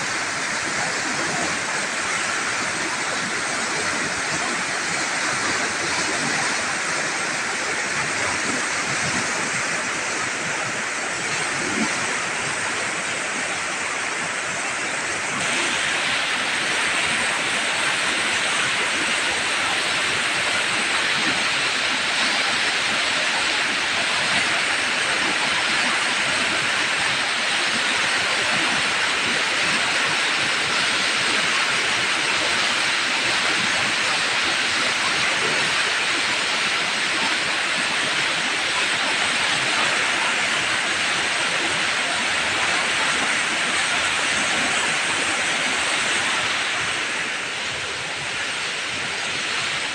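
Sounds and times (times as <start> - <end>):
river water rushing over rocks: 0.0 - 49.9.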